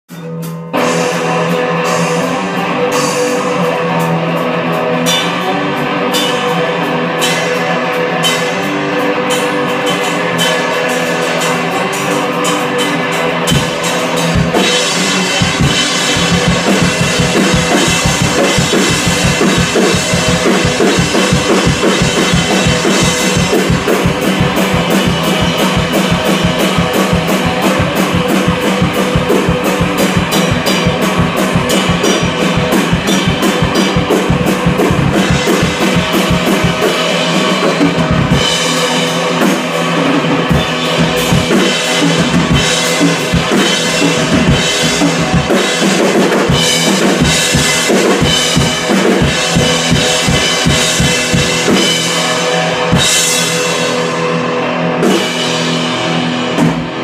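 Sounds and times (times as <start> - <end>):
drum kit playing: 0.1 - 57.0
electric guitar through an amp: 0.2 - 57.0
heavy bass drum: 0.8 - 54.2.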